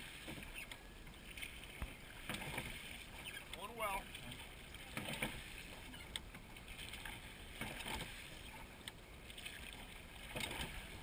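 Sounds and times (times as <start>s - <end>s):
oar blades swishing through water: 0.0s - 11.0s.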